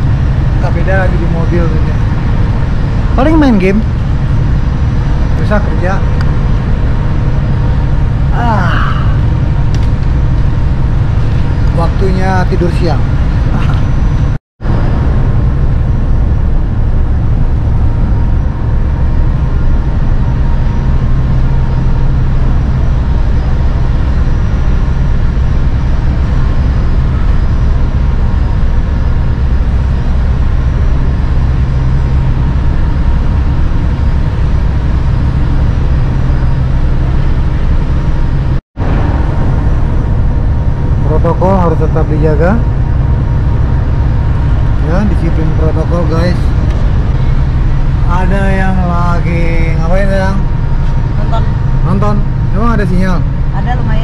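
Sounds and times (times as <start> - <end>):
ship engines droning: 0.0 - 54.0.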